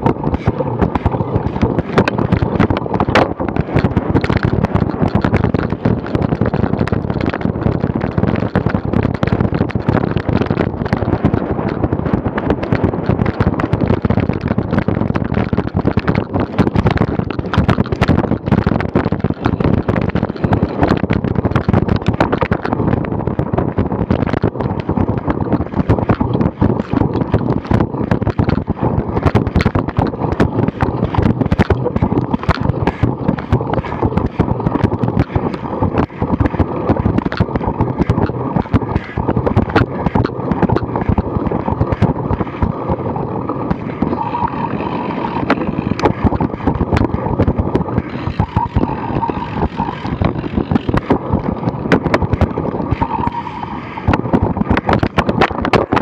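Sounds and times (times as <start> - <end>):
bike and camera mount rattling: 0.0 - 56.0
wind on microphone: 0.0 - 56.0.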